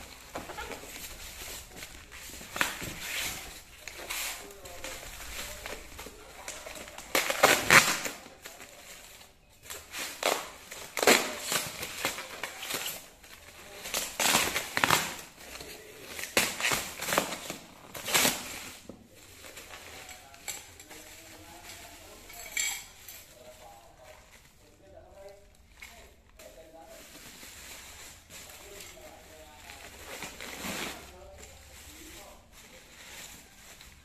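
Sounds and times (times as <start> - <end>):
packing materials ripping and crackling: 0.0 - 22.5, 23.2 - 34.0.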